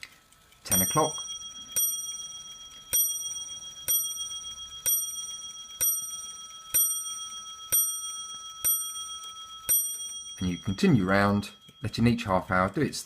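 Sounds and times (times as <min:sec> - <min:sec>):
clock striking: 0:00.6 - 0:13.0.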